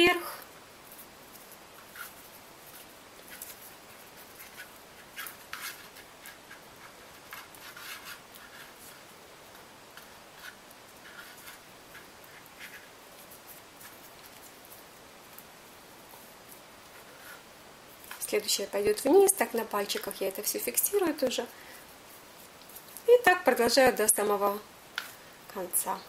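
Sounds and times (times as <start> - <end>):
rubbing and rustling of tape: 0.4 - 24.1.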